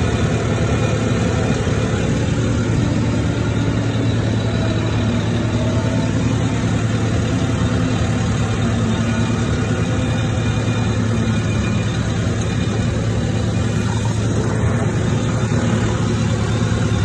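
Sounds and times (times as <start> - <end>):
engine idling with low hum: 0.0 - 17.0.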